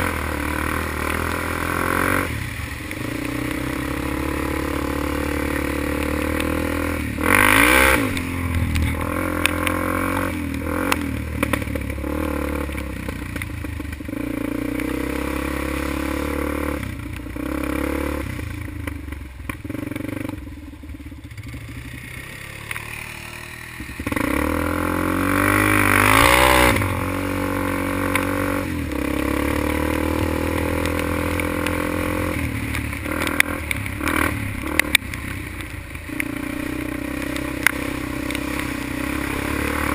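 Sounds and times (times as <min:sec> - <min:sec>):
atv engine revving: 0:00.0 - 0:39.9
chassis rattling over rough ground: 0:00.0 - 0:39.9.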